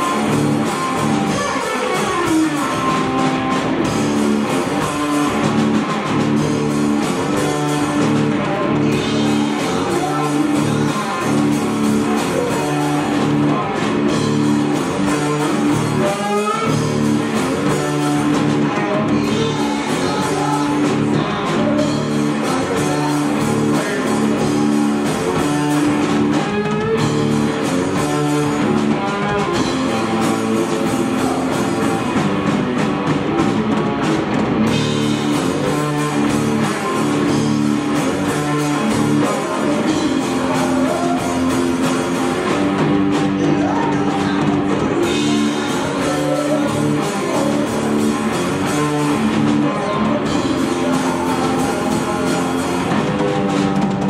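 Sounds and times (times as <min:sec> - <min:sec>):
drum kit: 0:00.0 - 0:54.0
electric guitar: 0:00.0 - 0:54.0
person singing: 0:00.0 - 0:54.0.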